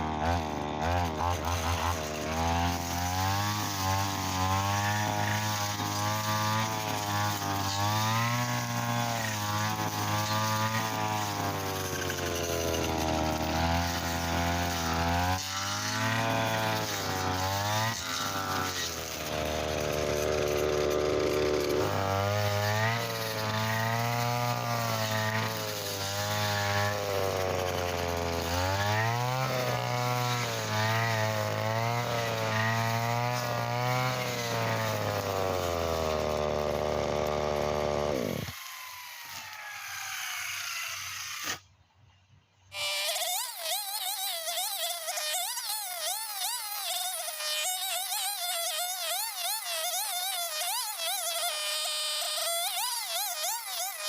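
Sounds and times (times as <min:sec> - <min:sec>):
brush cutter engine at high revs: 0:00.0 - 0:41.7, 0:42.7 - 0:54.0
trimmer line cutting grass: 0:00.0 - 0:41.8, 0:42.7 - 0:54.0.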